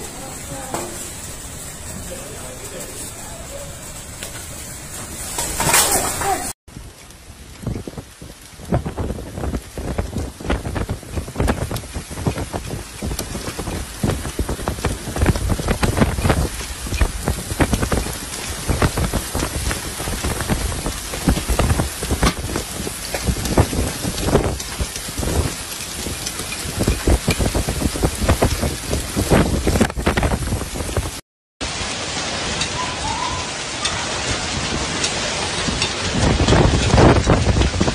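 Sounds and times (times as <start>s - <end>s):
heavy rain on car roof: 0.0s - 37.9s.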